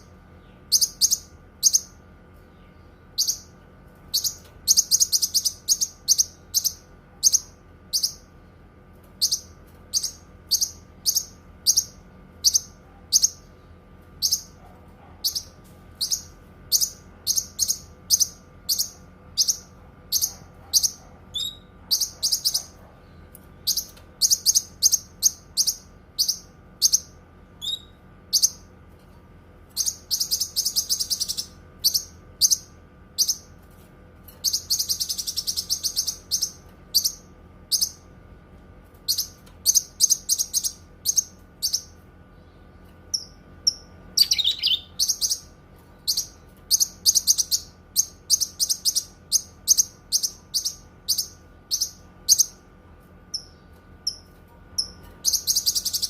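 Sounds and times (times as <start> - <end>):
songbird singing: 0.0 - 8.3, 9.2 - 13.5, 14.2 - 14.6, 15.2 - 28.7, 29.7 - 33.5, 34.4 - 38.0, 39.1 - 52.6, 53.3 - 56.0
faint steady hum: 0.0 - 56.0.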